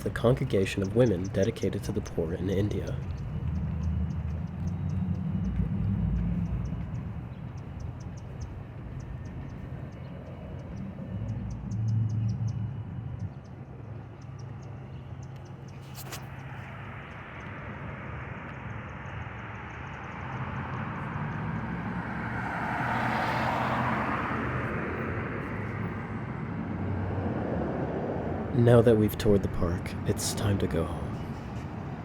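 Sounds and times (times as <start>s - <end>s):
vehicle passing: 0.0s - 15.3s, 16.0s - 32.0s
low engine hum: 0.0s - 32.0s.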